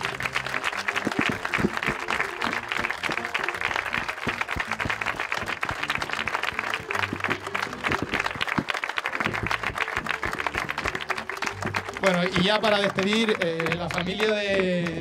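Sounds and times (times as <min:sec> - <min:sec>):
crowd applauding: 0:00.0 - 0:15.0
instrumental music: 0:00.0 - 0:15.0.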